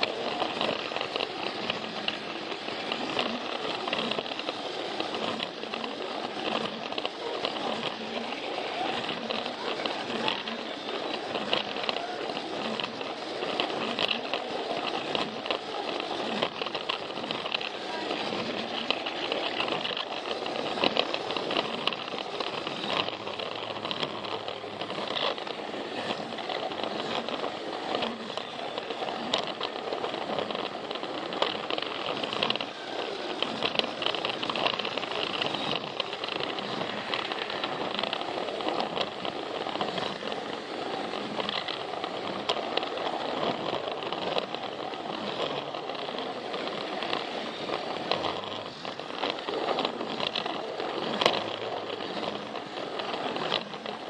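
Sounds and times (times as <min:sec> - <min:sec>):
toy train motor whirring: 0:00.0 - 0:54.0
wheels clicking over track joints: 0:00.0 - 0:54.0.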